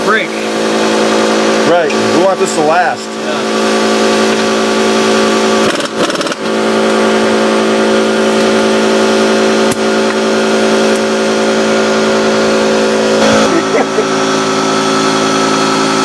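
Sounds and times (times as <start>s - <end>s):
motor running steadily: 0.0s - 16.0s.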